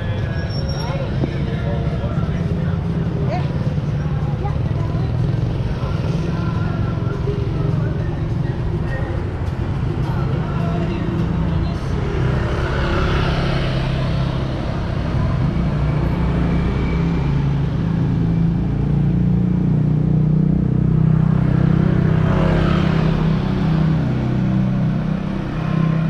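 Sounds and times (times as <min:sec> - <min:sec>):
passing engine: 0:00.0 - 0:26.0
vehicle engines humming: 0:00.0 - 0:26.0.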